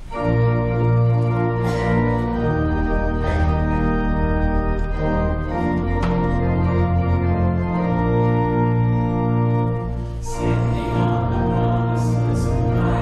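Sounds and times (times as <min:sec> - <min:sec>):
church organ chords: 0:00.0 - 0:13.0.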